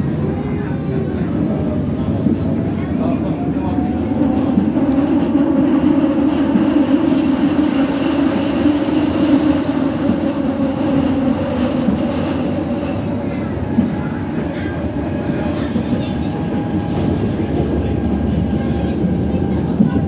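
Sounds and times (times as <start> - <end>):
tram wheels rumbling on rail: 0.0 - 20.0.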